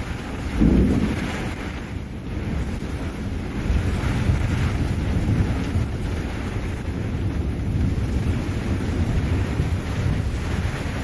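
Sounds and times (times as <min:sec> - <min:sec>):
rain hissing: 0:00.0 - 0:11.0
wind gusting over microphone: 0:00.0 - 0:11.0.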